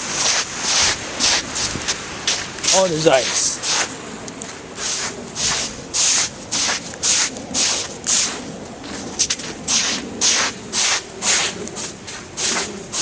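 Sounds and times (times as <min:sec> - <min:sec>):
footsteps crunching on icy ground: 0:00.2 - 0:13.0.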